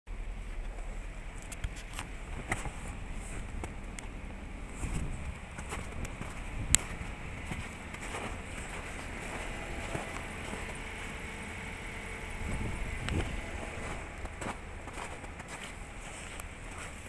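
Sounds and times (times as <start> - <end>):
car engine rumbling: 0.1 - 17.0.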